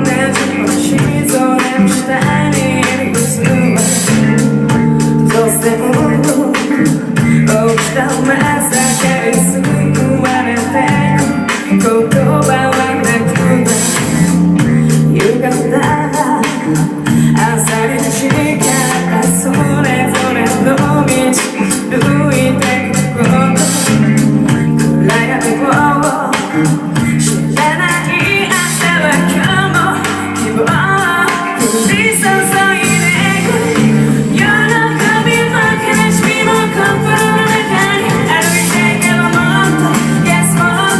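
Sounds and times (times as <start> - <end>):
guitar: 0.0 - 40.9
live band music: 0.0 - 40.9
percussion beat: 0.0 - 40.9
person singing: 0.0 - 40.9.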